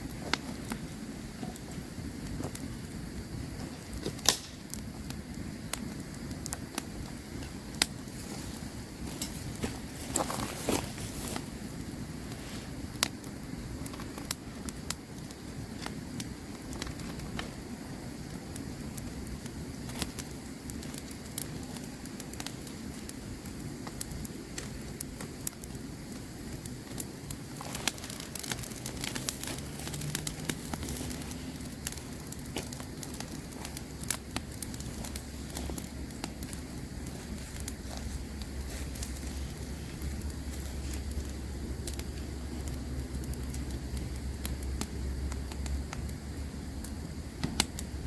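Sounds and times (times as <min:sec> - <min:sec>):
campfire crackling and popping: 0:00.0 - 0:48.0
low steady rumble: 0:00.0 - 0:48.0.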